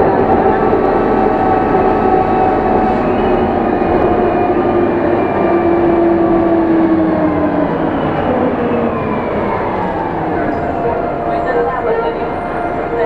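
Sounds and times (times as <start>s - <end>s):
bus engine running with whine: 0.0s - 13.0s.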